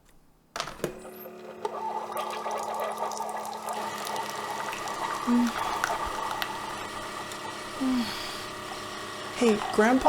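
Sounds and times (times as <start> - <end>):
coffee maker pump humming: 0.6 - 10.0
coffee streaming into cup: 1.0 - 10.0.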